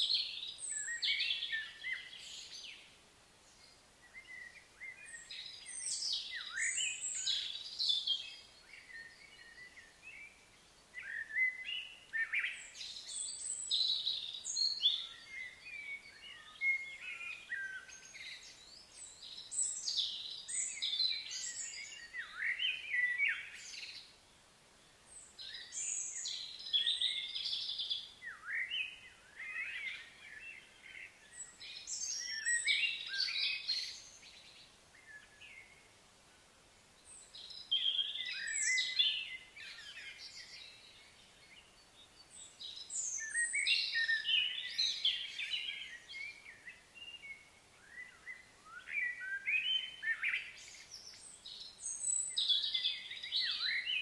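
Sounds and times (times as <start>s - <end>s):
birds chirping and singing: 0.0s - 2.8s, 3.6s - 10.4s, 11.0s - 24.1s, 25.1s - 35.8s, 37.1s - 54.0s
faint outdoor background noise: 0.0s - 54.0s.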